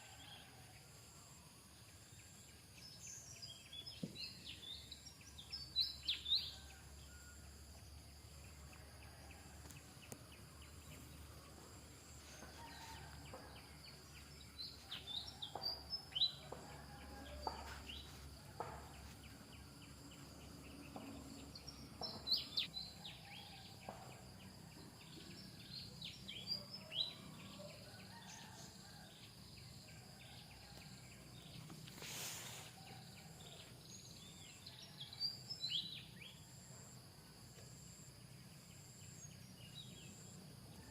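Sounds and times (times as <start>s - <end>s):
faint outdoor background noise: 0.0s - 40.9s.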